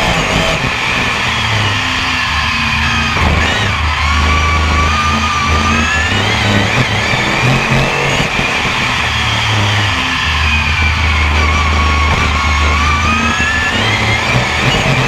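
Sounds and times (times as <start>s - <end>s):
background music with bass line: 0.0s - 15.0s
race car engine revving: 0.0s - 15.0s.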